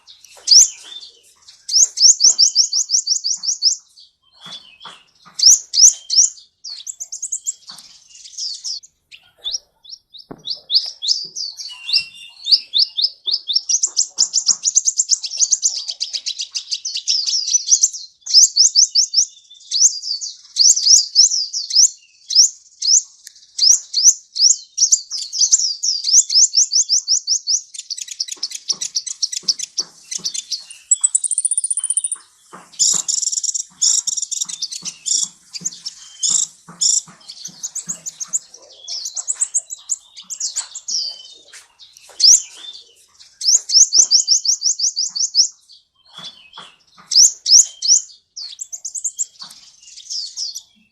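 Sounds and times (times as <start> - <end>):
bird singing fast trills: 0.0 - 50.9.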